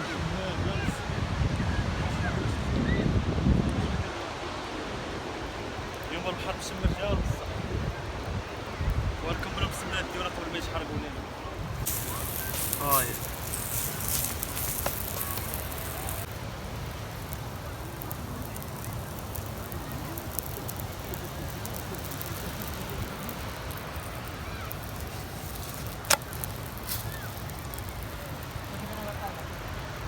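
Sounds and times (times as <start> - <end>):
sharp crack of fire: 5.4 - 30.0
wood fire crackling: 5.4 - 30.0.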